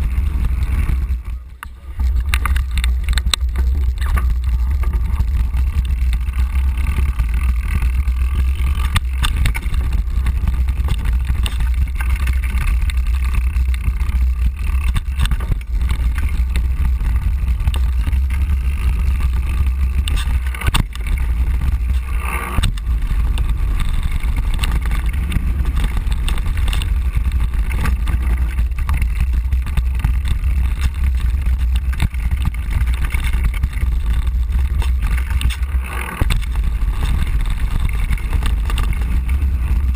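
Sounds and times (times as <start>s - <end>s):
bike knocking over bumps: 0.0s - 39.9s
tyres rolling over gravel: 0.0s - 39.9s.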